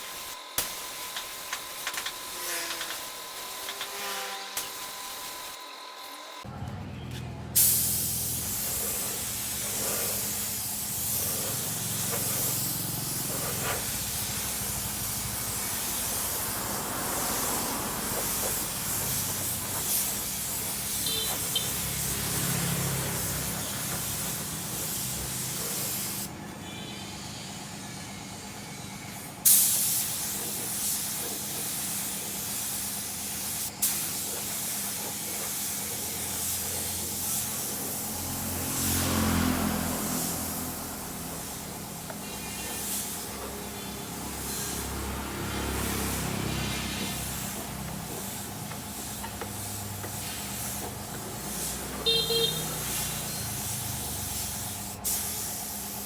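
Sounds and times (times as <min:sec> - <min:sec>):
spray gun hissing: 0:00.0 - 0:05.6, 0:07.6 - 0:26.3, 0:27.3 - 0:56.0.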